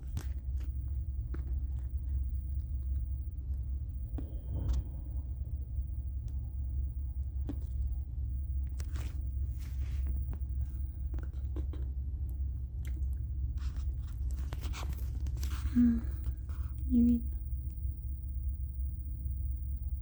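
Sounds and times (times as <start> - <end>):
low ship rumble: 0.0 - 20.0.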